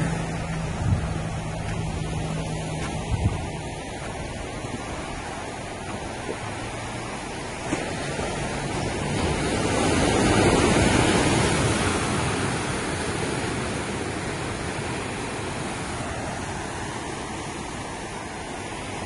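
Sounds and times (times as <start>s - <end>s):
sea surf washing ashore: 0.0s - 19.0s.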